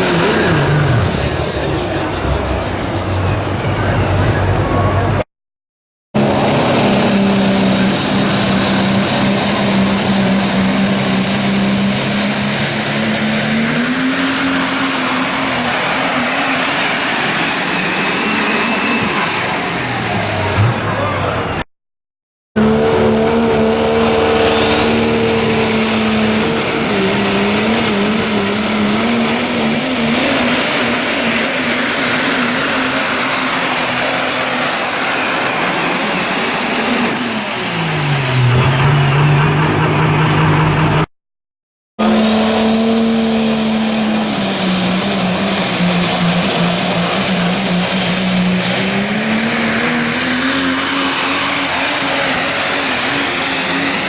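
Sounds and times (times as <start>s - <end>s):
diesel truck engine: 0.0s - 5.3s, 6.2s - 21.7s, 22.6s - 41.1s, 42.0s - 54.0s
turbocharger whistle: 6.2s - 21.6s, 22.6s - 41.1s, 42.0s - 54.0s.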